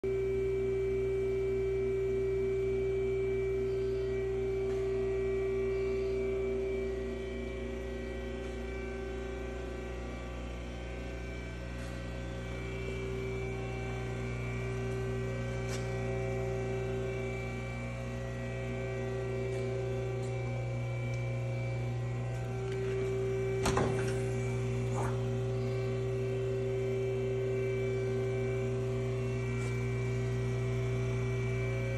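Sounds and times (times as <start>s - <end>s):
electrical hum: 0.0s - 31.9s.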